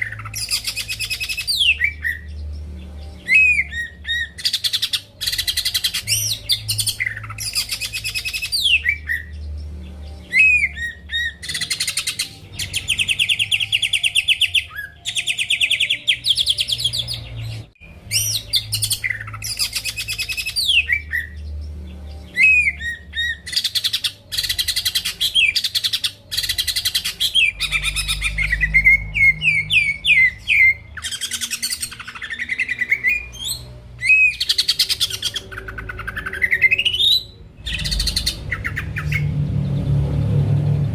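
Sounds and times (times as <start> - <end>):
bird singing fast trills: 0.0 - 40.9.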